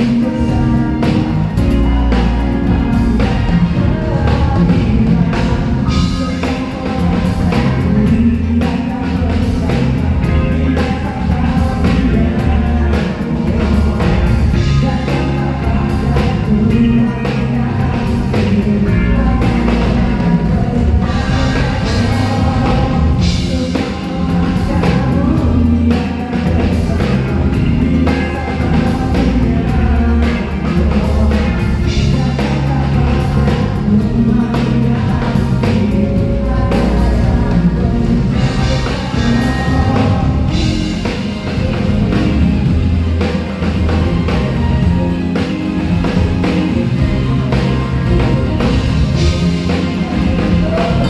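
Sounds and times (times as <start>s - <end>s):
bass: 0.0s - 51.0s
drum kit: 0.0s - 51.0s
person singing: 0.0s - 51.0s.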